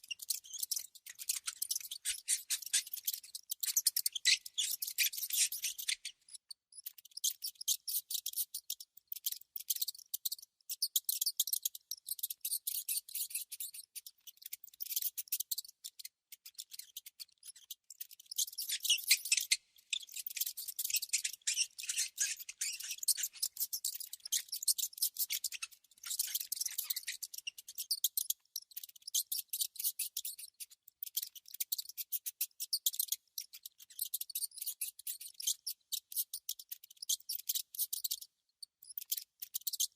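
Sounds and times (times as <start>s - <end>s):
mouse clicks and chitters: 0.0s - 39.9s.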